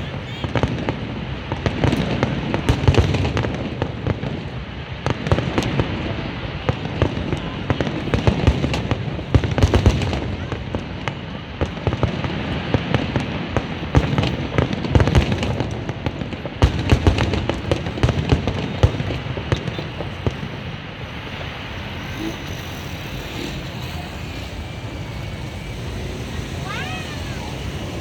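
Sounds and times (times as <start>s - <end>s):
scattered firework pops: 0.0s - 24.3s
firework bangs and crackling: 0.0s - 28.0s
rumble of noise: 0.0s - 28.0s.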